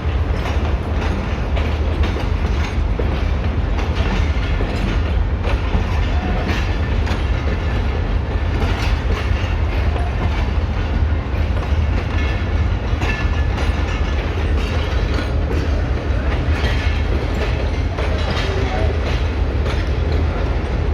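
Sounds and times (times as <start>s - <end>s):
diesel locomotive chugging: 0.0s - 20.9s
train wheels clacking on rails: 0.0s - 20.9s.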